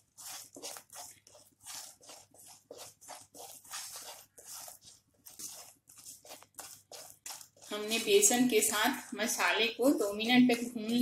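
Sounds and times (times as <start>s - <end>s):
spatula scraping thick paste: 0.0s - 9.6s.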